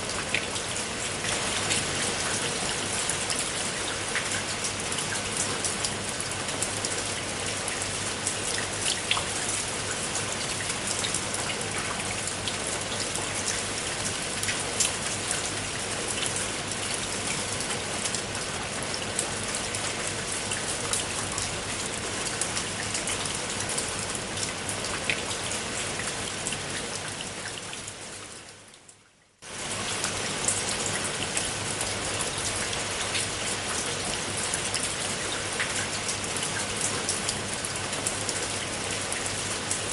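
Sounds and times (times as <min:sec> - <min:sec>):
rain on a tile roof: 0:00.0 - 0:39.9.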